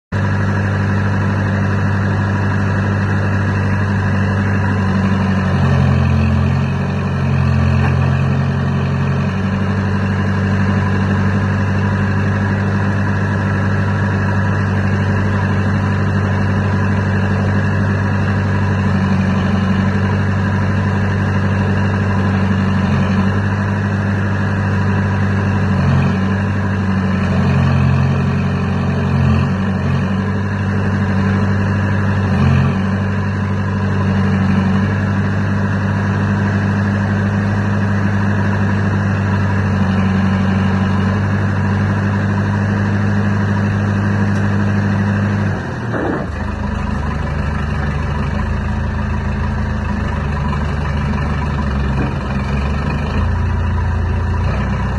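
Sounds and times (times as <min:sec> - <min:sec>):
diesel engine idling: 0:00.1 - 0:54.9.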